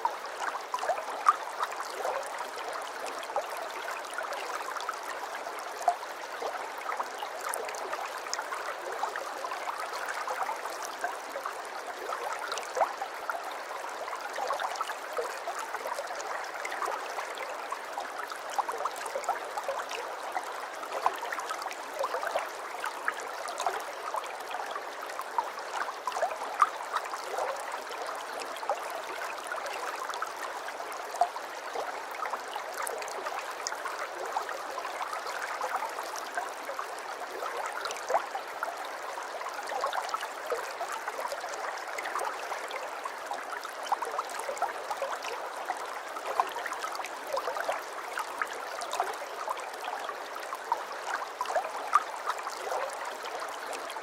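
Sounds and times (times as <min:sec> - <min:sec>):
aquarium water trickling and bubbling: 0:00.0 - 0:54.0.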